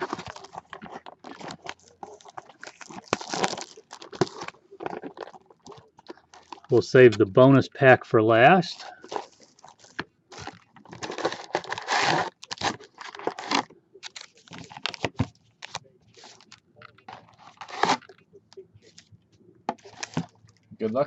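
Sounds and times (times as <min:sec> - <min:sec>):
wrapping torn and crinkled: 0:00.0 - 0:06.8, 0:08.9 - 0:19.1, 0:19.8 - 0:20.6.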